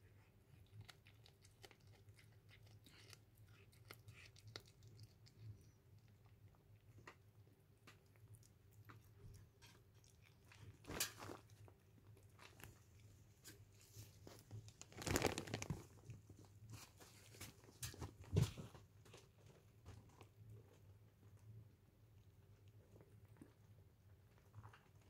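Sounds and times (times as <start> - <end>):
cat chewing and crunching: 0.0 - 25.0.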